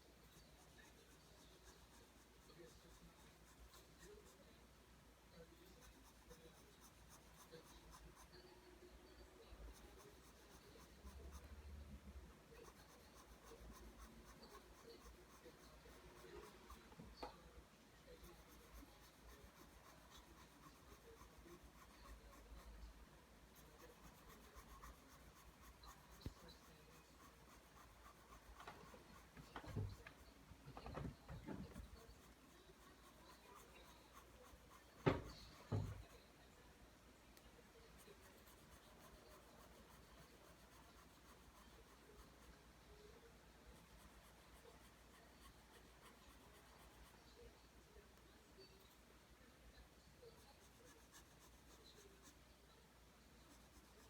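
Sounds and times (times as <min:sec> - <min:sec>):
pencil scratching on paper: 0:00.0 - 0:04.6, 0:05.3 - 0:08.6, 0:09.2 - 0:36.4, 0:37.8 - 0:47.4, 0:50.2 - 0:52.4, 0:53.2 - 0:54.0.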